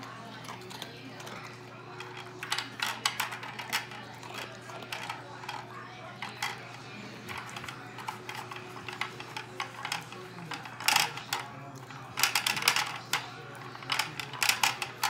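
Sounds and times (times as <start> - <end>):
plastic puzzle clicks and rattles: 0.4 - 15.0.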